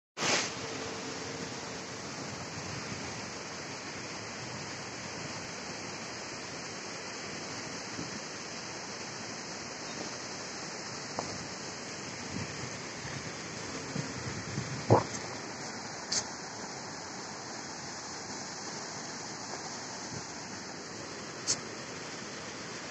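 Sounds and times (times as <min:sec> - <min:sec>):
flooded river rushing: 0:00.5 - 0:22.9.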